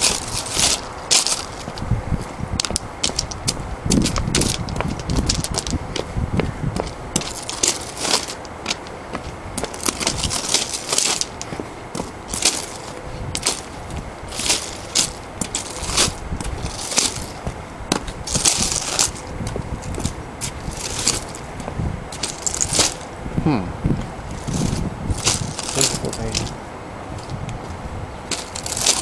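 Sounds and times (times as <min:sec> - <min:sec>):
footsteps crunching on gravel: 0:00.0 - 0:23.1, 0:24.0 - 0:29.0.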